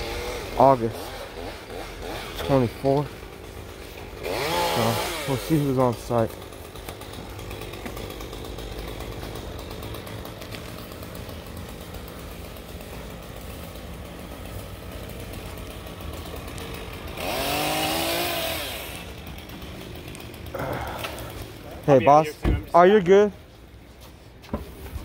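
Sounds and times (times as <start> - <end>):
distant chainsaw running: 0.0 - 23.4.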